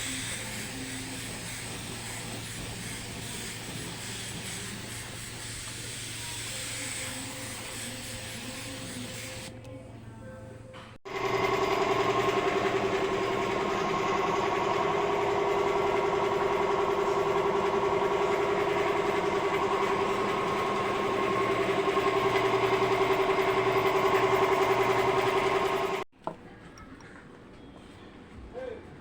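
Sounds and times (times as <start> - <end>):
small motor running: 0.0 - 9.5, 11.1 - 26.1.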